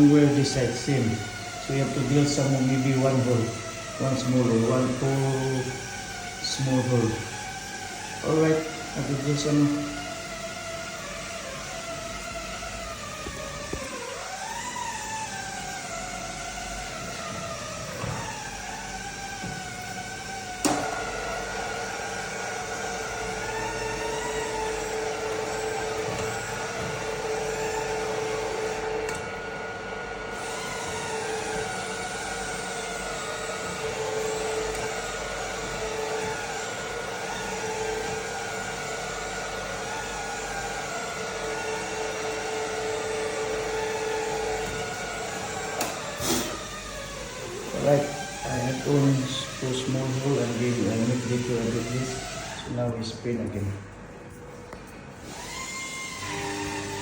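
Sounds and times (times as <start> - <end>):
electric drill whining: 0.0 - 53.2, 54.3 - 57.0.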